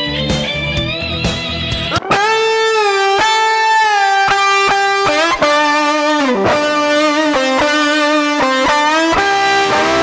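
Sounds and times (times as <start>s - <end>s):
distorted electric guitar solo: 0.0s - 10.0s.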